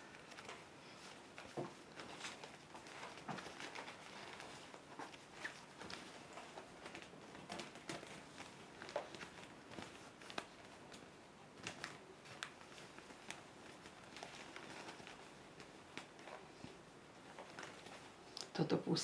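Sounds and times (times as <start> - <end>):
cloth rustling and crackling: 0.0 - 18.6.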